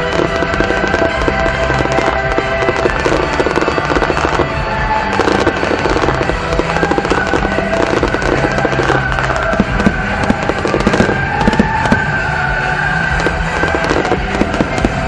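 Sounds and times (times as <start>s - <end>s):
fireworks crackling: 0.0s - 15.0s
music playing: 0.0s - 15.0s.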